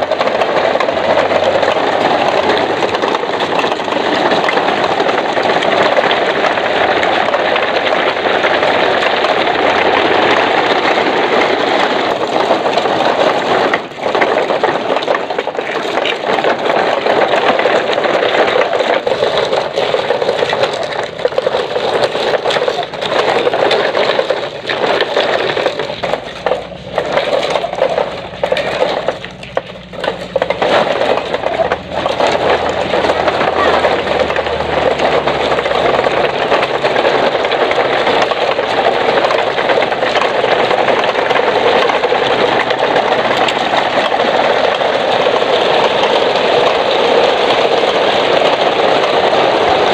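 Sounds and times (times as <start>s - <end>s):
toy trucks rolling over gravel: 0.0s - 49.9s.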